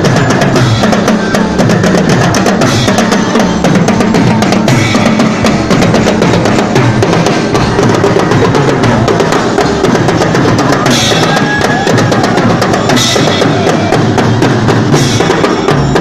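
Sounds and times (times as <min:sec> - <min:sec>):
marching drums: 0:00.0 - 0:16.0.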